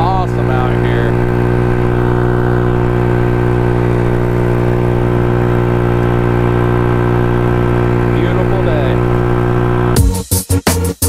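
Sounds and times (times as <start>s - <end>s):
scooter engine droning: 0.0s - 10.0s.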